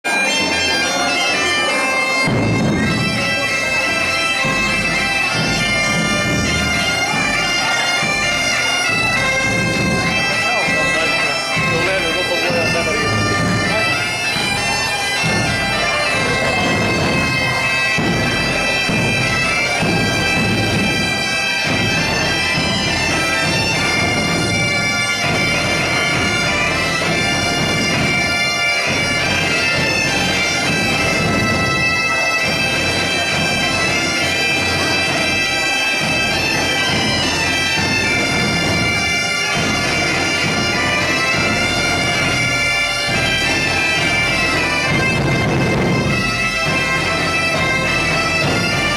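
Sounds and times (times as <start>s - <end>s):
bagpipe band playing folk tune: 0.0s - 48.9s.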